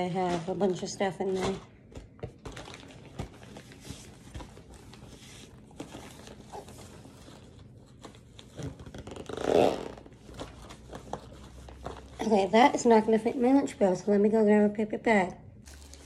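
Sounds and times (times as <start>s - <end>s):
packaging rustling and crinkling: 0.3s - 12.9s, 15.6s - 16.0s.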